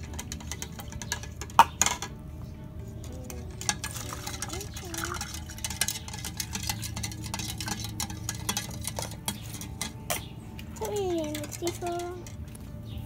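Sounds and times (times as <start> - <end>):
spoon stirring in plastic cup: 0.0 - 2.1, 2.8 - 12.7.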